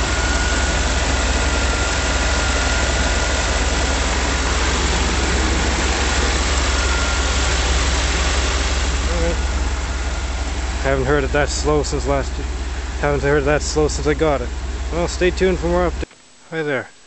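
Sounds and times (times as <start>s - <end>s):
engine idling low: 0.0s - 16.1s
high-pitched whine: 0.0s - 17.0s.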